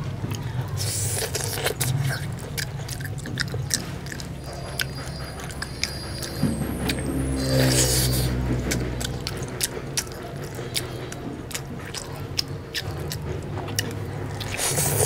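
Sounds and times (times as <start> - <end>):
man chewing meat: 0.0 - 15.0.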